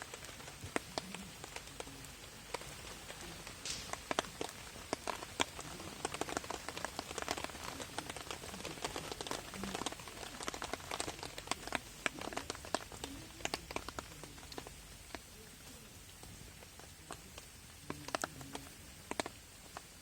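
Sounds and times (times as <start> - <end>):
rain hitting a tarp: 0.0 - 20.0.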